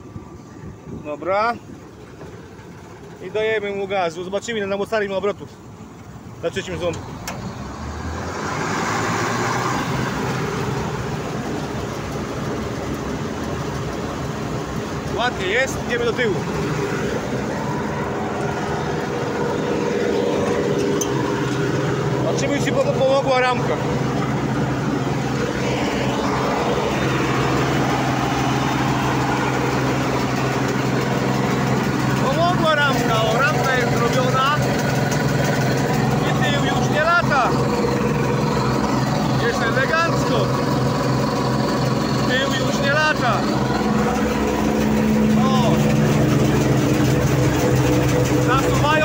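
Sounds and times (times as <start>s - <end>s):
combine harvester engine running: 0.0s - 49.0s.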